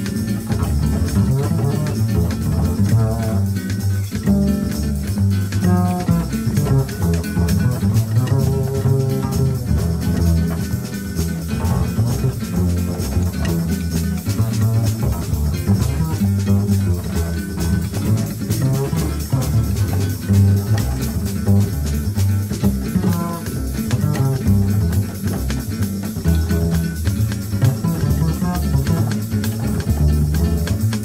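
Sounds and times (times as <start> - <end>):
plucked double bass jazz: 0.0 - 31.0.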